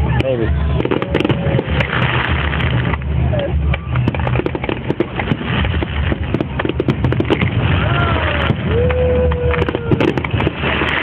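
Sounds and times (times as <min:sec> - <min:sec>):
fireworks crackling and popping: 0:00.0 - 0:11.0
low rumble: 0:00.0 - 0:11.0.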